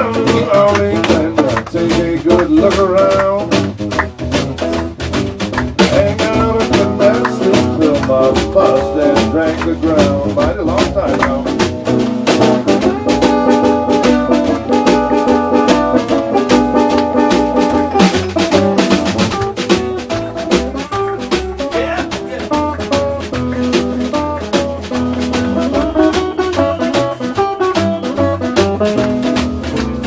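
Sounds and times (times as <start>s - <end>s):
live blues band playing: 0.0s - 30.0s.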